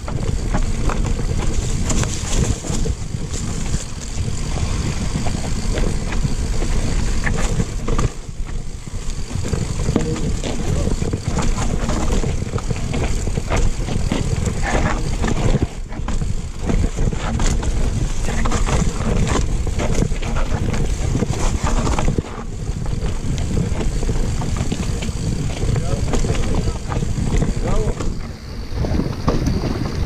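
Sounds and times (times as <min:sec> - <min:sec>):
mountain bike rattling: 0:00.0 - 0:30.0
wind buffeting microphone: 0:00.0 - 0:30.0.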